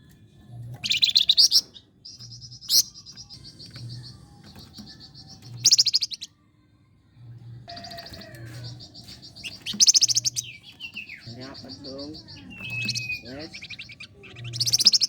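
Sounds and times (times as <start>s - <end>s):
cage bird trilling: 0.7s - 6.3s, 7.6s - 15.0s.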